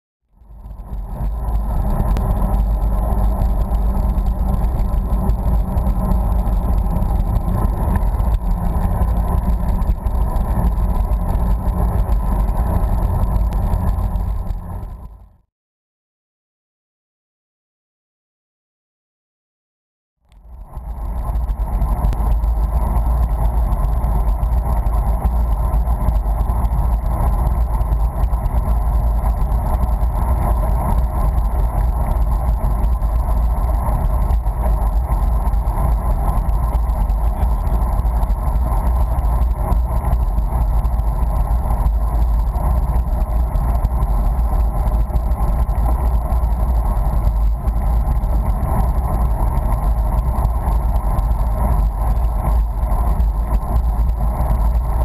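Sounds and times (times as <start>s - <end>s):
wind rumble on microphone: 0.3s - 15.4s, 20.3s - 55.0s.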